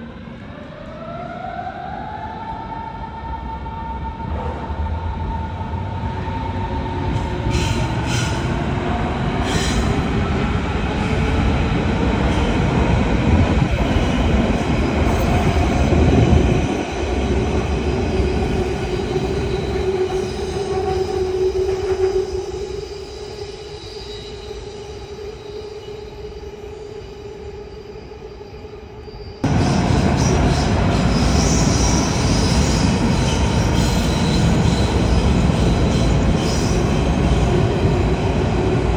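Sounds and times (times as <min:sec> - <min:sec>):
rail and wheel rumble: 0:00.0 - 0:38.9.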